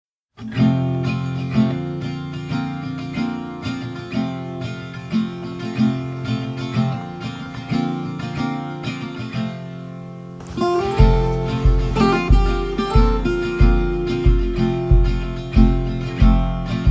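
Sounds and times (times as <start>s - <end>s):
acoustic guitar strumming: 0.4s - 16.9s.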